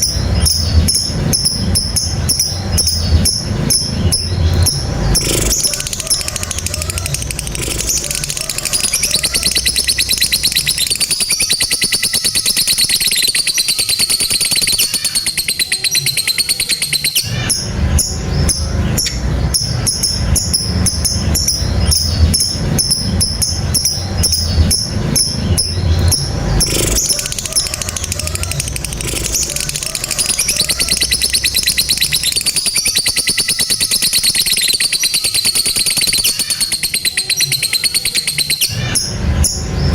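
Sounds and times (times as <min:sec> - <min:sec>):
lovebird shrill chattering trill: 0:00.0 - 0:39.9.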